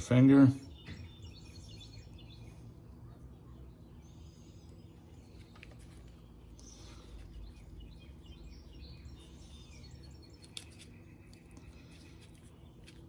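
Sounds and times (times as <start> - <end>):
faint birds chirping: 0.0 - 13.0
steady low hum: 0.0 - 13.0.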